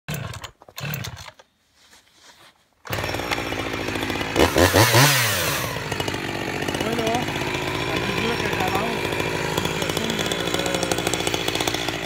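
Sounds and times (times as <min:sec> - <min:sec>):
chainsaw engine revving: 0:00.1 - 0:01.4, 0:02.9 - 0:12.0.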